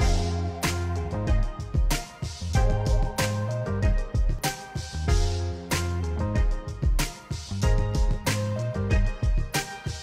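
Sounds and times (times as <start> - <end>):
song with steady drum beat: 0.0 - 10.0.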